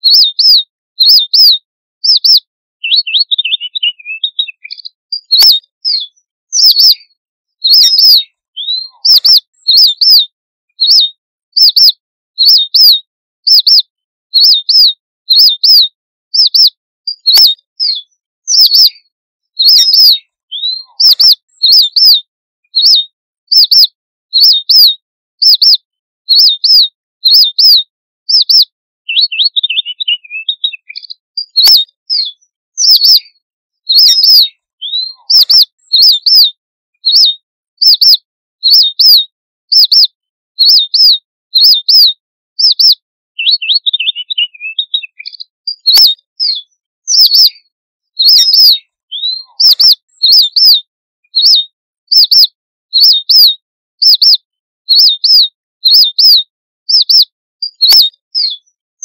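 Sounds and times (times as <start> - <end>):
soft bird twittering: 0.0 - 50.7, 51.3 - 54.4, 55.2 - 58.8
finch chirping calls: 0.0 - 58.8.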